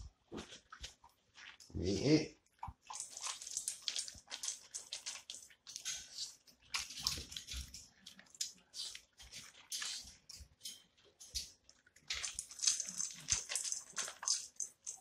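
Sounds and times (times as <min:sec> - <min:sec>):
dog licking and lapping: 0:02.4 - 0:15.0.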